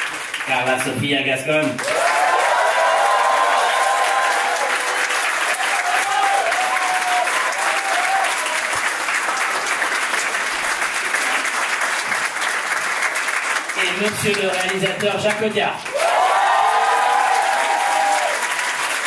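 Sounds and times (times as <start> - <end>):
crowd applause: 1.7 - 19.0.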